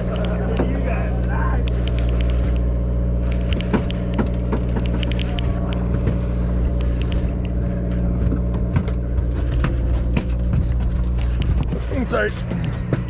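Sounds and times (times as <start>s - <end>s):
clicks and knocks of gear: 0.0s - 0.7s, 1.6s - 13.0s
boat engine droning: 0.0s - 13.0s.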